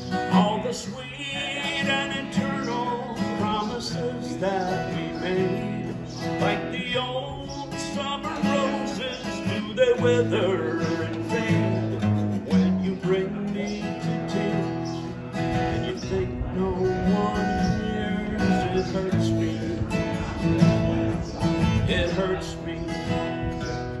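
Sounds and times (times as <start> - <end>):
acoustic guitar picking and strumming: 0.0 - 24.0.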